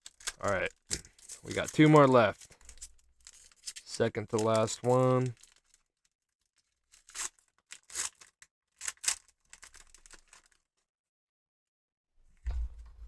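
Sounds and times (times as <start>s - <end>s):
foil wrapper ripping: 0.0s - 10.7s
foil wrapper rustling: 0.0s - 10.8s.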